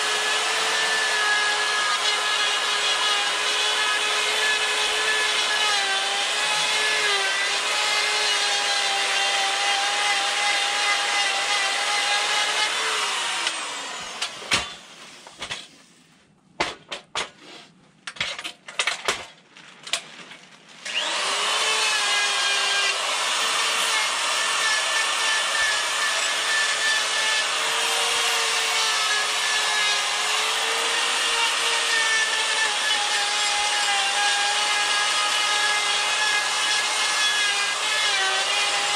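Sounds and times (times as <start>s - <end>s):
die grinder grinding wood: 0.0s - 15.3s, 20.8s - 38.9s.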